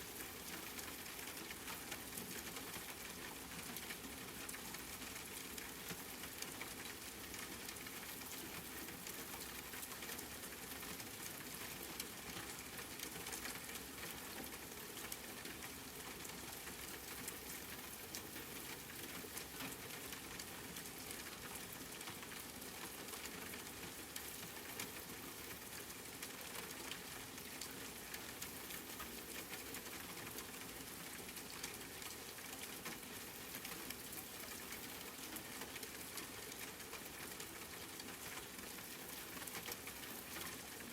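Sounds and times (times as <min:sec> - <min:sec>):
raindrops ticking on a surface: 0:00.0 - 0:40.9
steady rain: 0:00.0 - 0:40.9.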